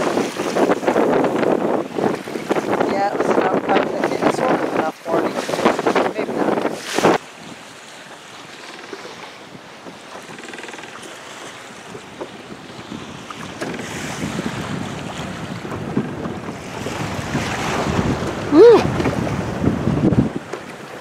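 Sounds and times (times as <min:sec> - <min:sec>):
choppy water slapping: 0:00.0 - 0:21.0
wind buffeting microphone: 0:00.0 - 0:21.0.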